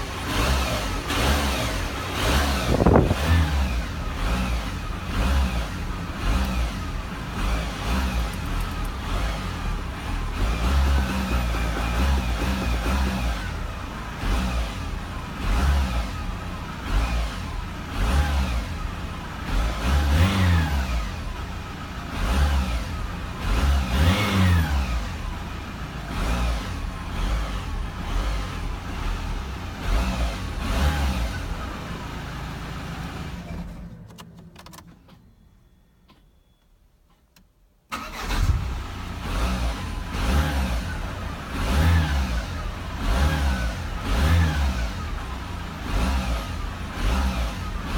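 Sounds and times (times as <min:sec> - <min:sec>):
diesel engine revving: 0:00.0 - 0:34.0, 0:37.9 - 0:47.9.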